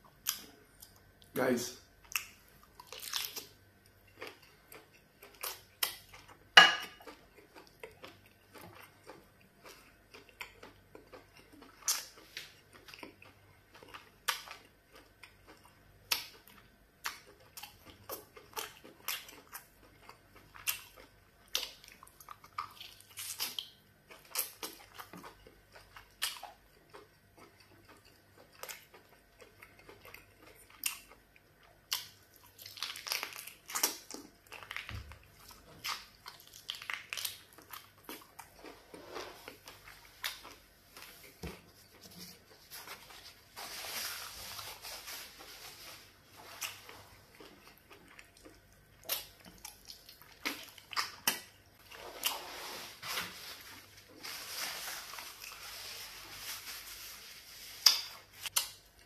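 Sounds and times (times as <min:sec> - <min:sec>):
person chewing with wet smacks: 0:00.0 - 0:01.3, 0:02.0 - 0:43.3, 0:46.4 - 0:52.5, 0:57.8 - 0:59.0.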